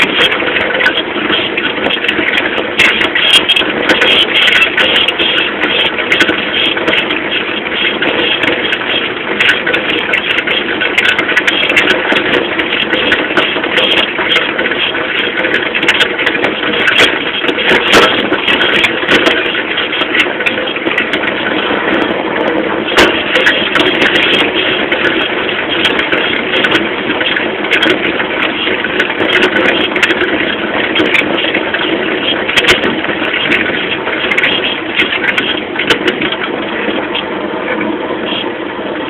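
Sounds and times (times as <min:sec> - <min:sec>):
moped engine running: 0:00.0 - 0:39.0
rushing wind noise: 0:00.0 - 0:39.0.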